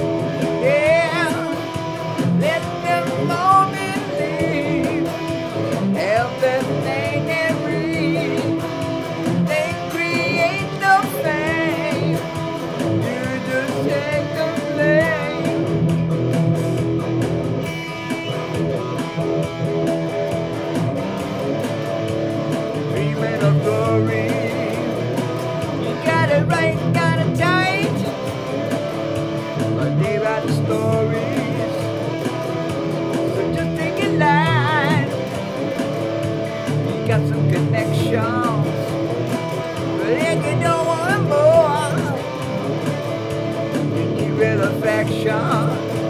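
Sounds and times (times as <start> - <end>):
drum machine beat: 0.0 - 46.0
electric guitar lead with bends: 0.0 - 46.0.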